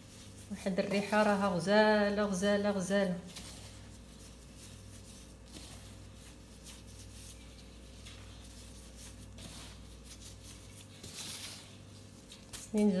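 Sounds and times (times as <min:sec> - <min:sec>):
hands kneading crumbly dough: 0:00.0 - 0:13.0
steady low hum: 0:00.0 - 0:13.0.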